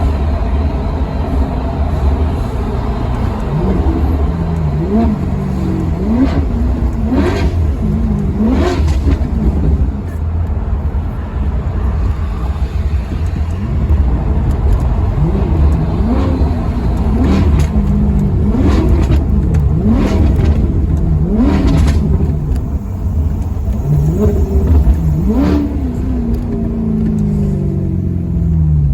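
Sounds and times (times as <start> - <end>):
car engine revving: 0.0 - 28.9
deep engine rumble: 0.0 - 28.9.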